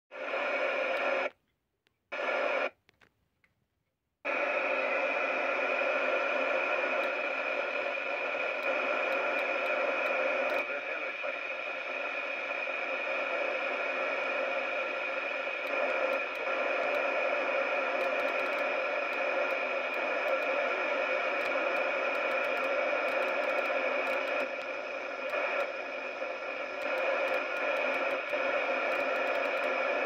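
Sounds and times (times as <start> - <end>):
radio static hiss: 0.1 - 1.4, 2.1 - 2.8, 4.3 - 30.0.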